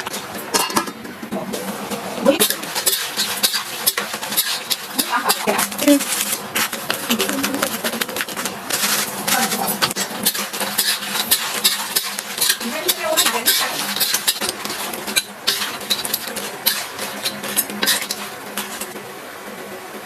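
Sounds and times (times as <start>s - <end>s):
utensil scraping a pan: 0.0s - 19.0s.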